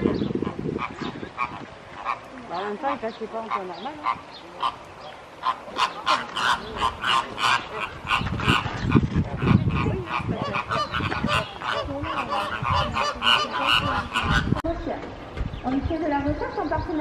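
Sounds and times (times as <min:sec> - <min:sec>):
flamingos honking: 0:00.0 - 0:15.3.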